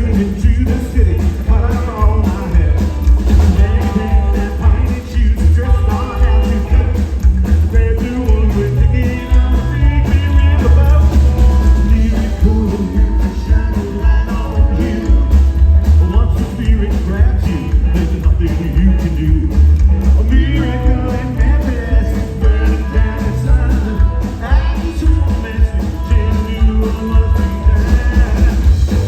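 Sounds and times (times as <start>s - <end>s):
driving drum beat: 0.0s - 29.0s
electric guitar lines: 0.0s - 29.0s
heavy bass line: 0.0s - 29.0s
rockabilly band playing live: 0.0s - 29.0s.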